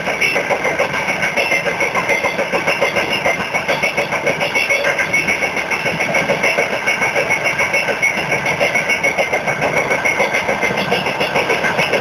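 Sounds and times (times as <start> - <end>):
high ringing tone: 0.0 - 12.0
train wheels clattering on rails: 0.0 - 12.0.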